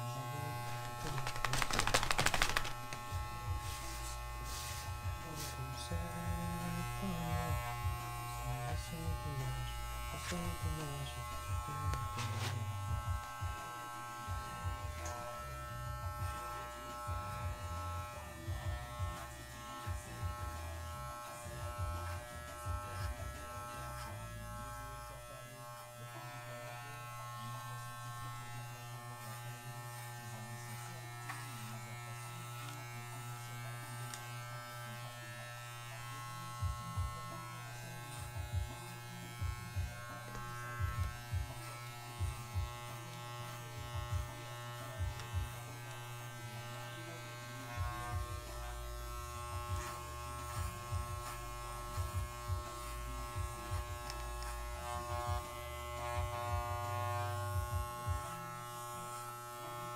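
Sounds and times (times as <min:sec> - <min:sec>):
electric clippers buzzing: 0:00.0 - 0:59.9.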